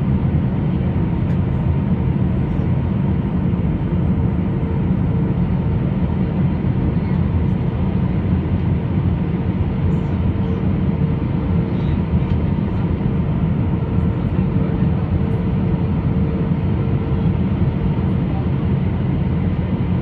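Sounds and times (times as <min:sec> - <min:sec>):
airliner engines rumbling: 0:00.0 - 0:20.0.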